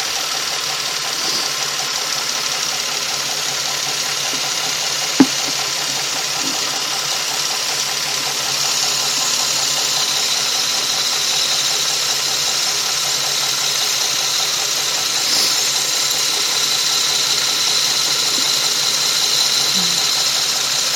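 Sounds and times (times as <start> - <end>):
car engine running: 0.0 - 20.9
hiss: 0.1 - 20.9
fast ticking knock: 2.5 - 20.2.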